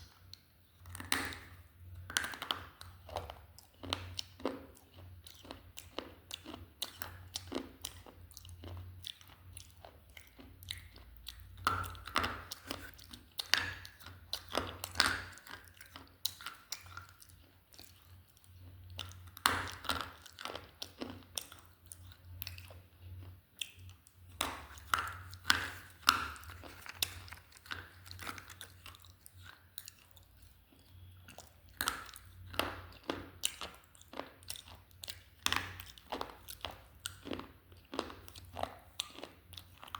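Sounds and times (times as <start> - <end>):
brittle crunches of chewing: 0.0 - 39.9
grinding chews: 2.1 - 39.9.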